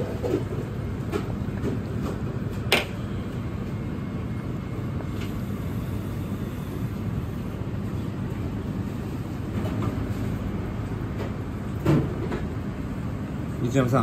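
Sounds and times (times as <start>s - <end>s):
kitchen equipment low rumble: 0.0s - 14.0s.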